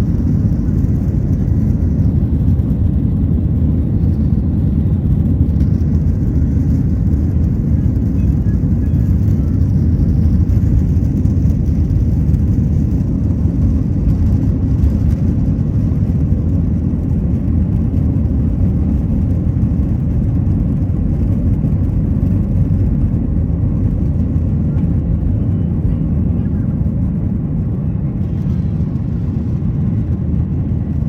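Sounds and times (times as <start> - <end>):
airplane cabin rumble: 0.0 - 31.0
jet engine and airflow noise: 0.0 - 31.0.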